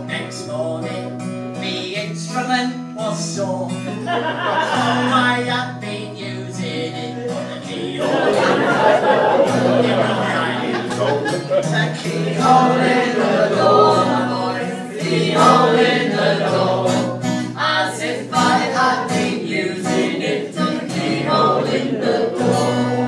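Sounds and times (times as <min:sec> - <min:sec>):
several voices singing folk song: 0:03.7 - 0:23.0.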